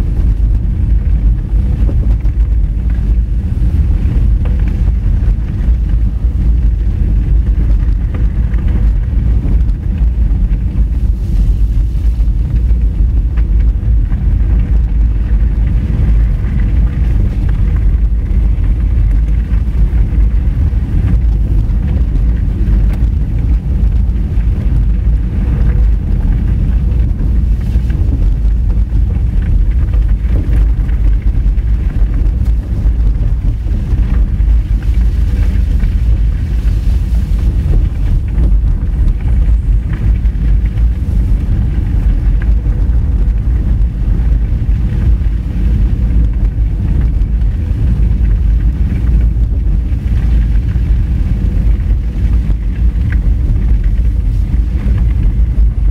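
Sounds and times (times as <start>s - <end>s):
tyres and engine rumble: 0.0s - 55.9s.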